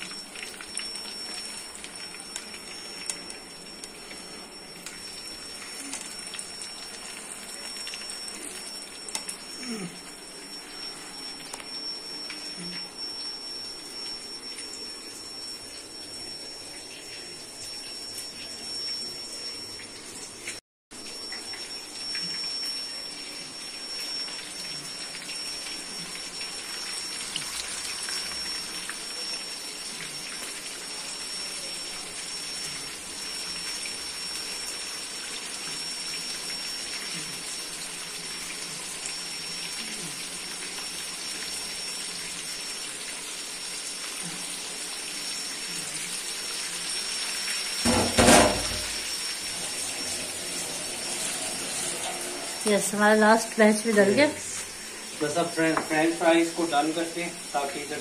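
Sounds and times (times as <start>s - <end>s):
chicken deep-frying in oil: 0.0s - 58.0s.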